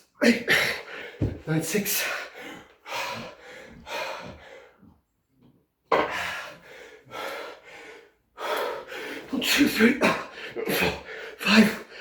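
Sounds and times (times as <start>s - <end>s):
man panting heavily: 0.4s - 5.0s, 6.0s - 12.0s.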